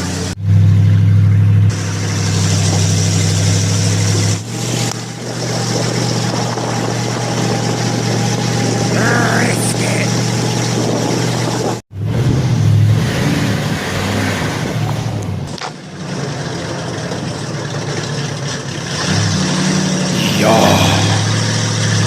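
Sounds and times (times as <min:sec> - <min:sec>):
monster truck engine droning: 0:00.0 - 0:22.0.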